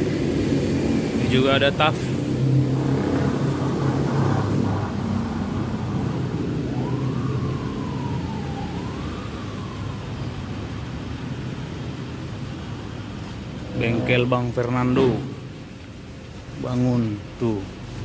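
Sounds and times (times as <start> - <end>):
faint siren wailing: 0.1 - 18.0.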